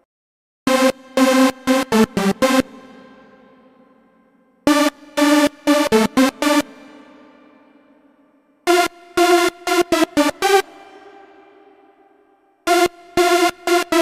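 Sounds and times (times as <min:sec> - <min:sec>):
electronic synth chord stabs: 0:00.7 - 0:14.0.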